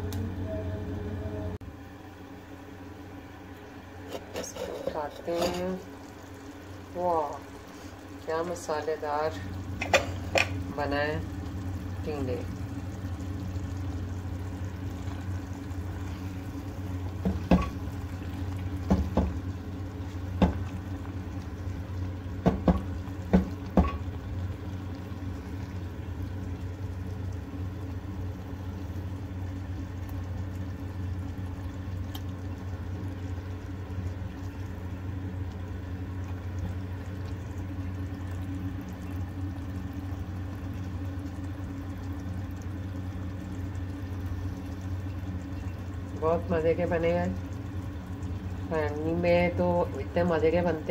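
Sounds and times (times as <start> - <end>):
low hum: 0.0 - 50.9
curry bubbling: 3.2 - 50.9.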